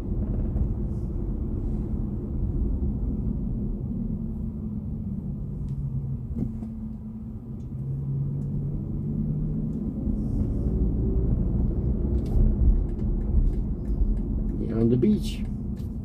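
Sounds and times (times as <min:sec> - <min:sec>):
car road and tyre rumble: 0:00.0 - 0:16.0.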